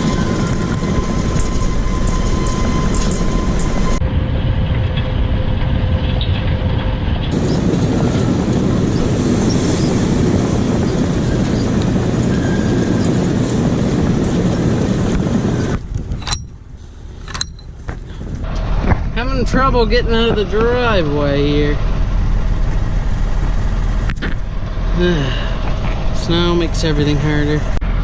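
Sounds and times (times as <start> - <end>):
heavy vehicle rumbling and rattling: 0.0 - 28.0.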